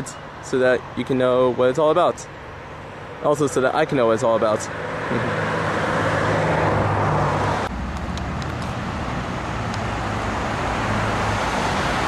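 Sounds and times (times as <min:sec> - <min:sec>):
engine hum: 0:00.0 - 0:12.0
road traffic rushing: 0:00.0 - 0:12.0.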